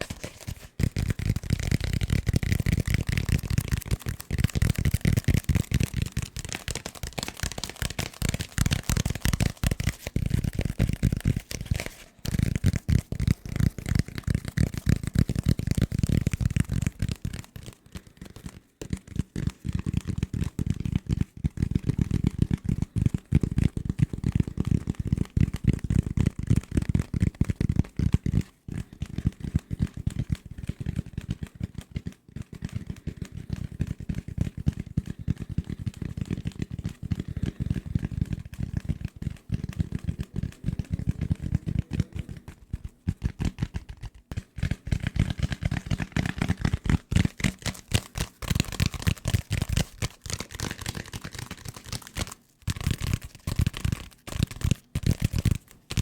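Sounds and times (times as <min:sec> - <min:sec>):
rapid tapping on desk objects: 0:00.0 - 0:56.0.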